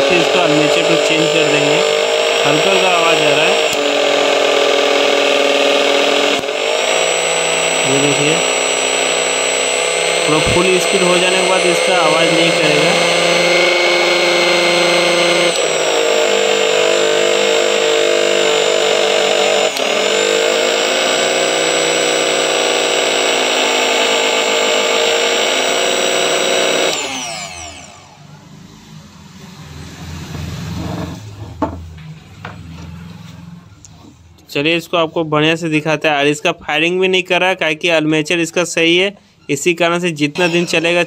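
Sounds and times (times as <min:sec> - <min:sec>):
mixer grinder motor whining: 0:00.0 - 0:34.5, 0:39.9 - 0:41.0.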